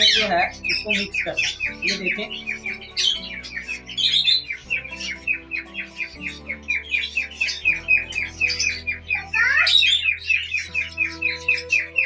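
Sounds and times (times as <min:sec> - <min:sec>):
small parrots chirping: 0:00.0 - 0:12.0.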